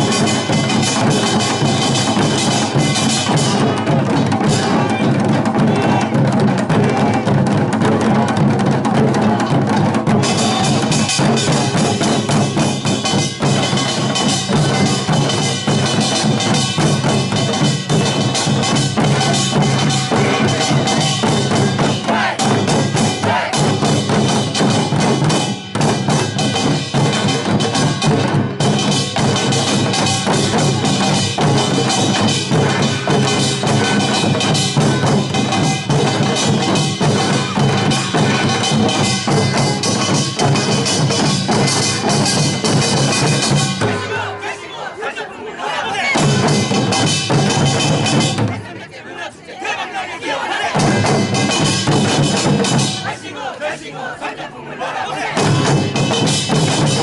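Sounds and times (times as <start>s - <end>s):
drums and gongs beaten: 0.0s - 49.0s, 49.8s - 54.0s, 54.8s - 57.0s.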